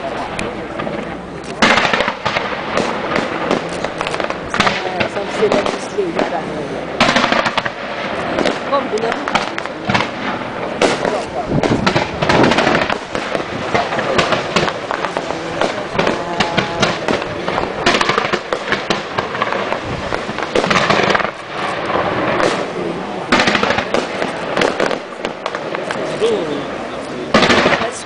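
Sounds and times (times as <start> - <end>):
fireworks crackling and popping: 0.0 - 28.0
fireworks rushing noise: 0.0 - 28.0.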